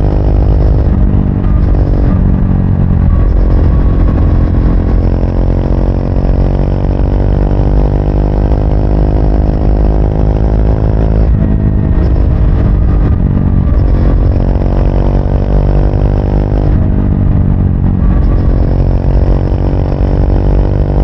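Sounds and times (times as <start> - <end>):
motorcycle engine riding: 0.0 - 21.0.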